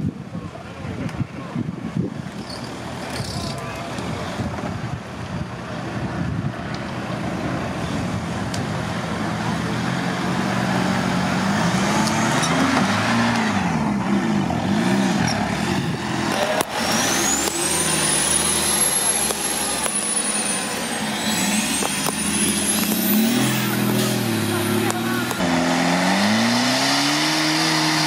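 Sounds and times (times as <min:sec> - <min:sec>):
off-road vehicle engine revving: 0:01.9 - 0:05.0, 0:05.6 - 0:28.0.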